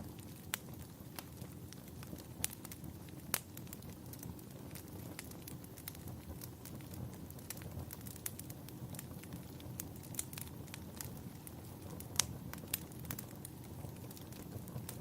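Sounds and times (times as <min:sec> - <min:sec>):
fire crackles and pops: 0:00.0 - 0:15.0
low rumble of flame: 0:00.0 - 0:15.0.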